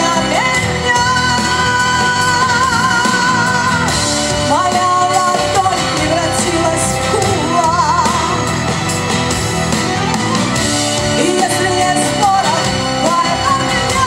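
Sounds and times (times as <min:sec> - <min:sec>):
woman singing with vibrato: 0:00.0 - 0:08.7, 0:11.0 - 0:14.0
instrumental backing music: 0:00.0 - 0:14.0.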